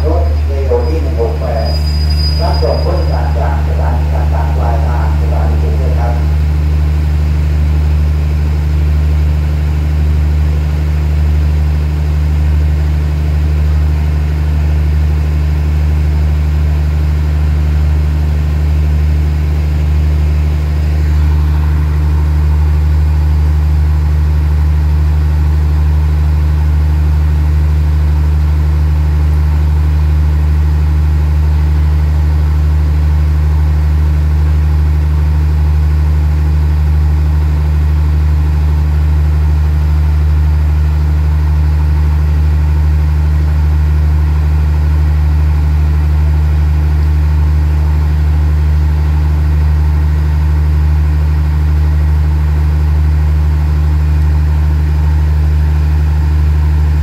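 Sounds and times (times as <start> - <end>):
train diesel engine idling: 0.0 - 57.0.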